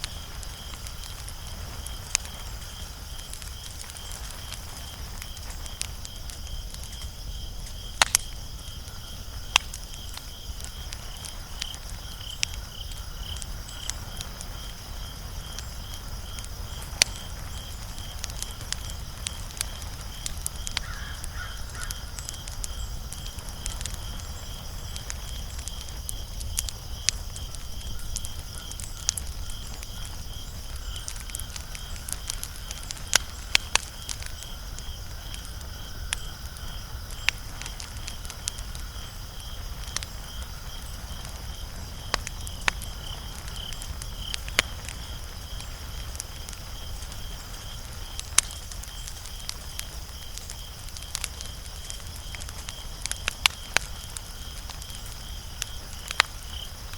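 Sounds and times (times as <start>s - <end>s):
low steady fire rumble: 0.0s - 56.9s
wood fire crackling and popping: 0.0s - 56.9s.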